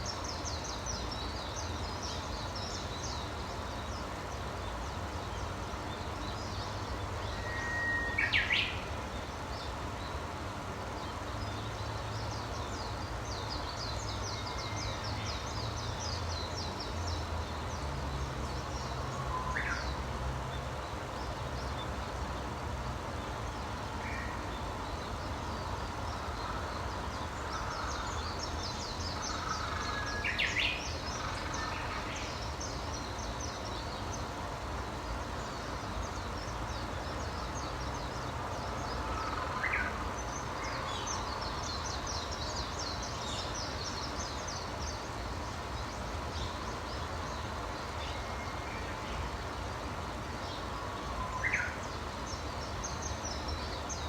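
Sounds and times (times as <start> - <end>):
low background noise: 0.0 - 54.0.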